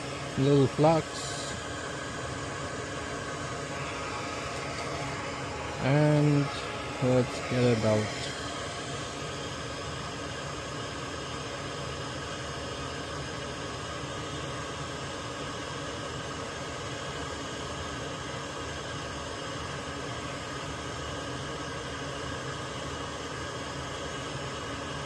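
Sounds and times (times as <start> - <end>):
constant hum: 0.0 - 25.0
fan whirring: 0.0 - 25.0.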